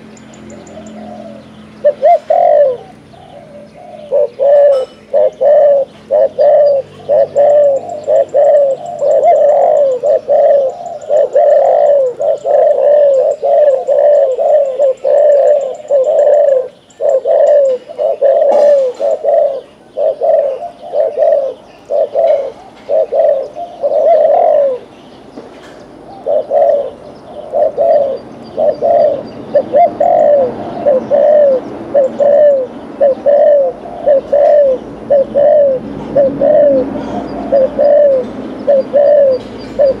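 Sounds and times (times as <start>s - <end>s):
dove cooing: 0.0s - 24.9s, 25.7s - 40.0s.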